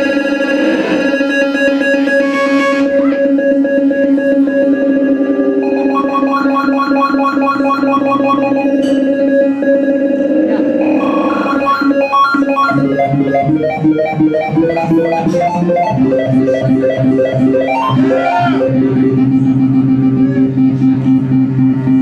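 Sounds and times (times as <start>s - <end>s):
wavering bending tone: 0.0s - 22.0s.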